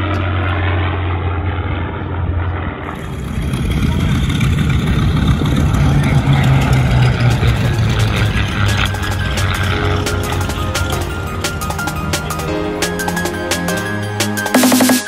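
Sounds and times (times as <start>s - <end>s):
propeller planes droning past: 0.0s - 14.6s.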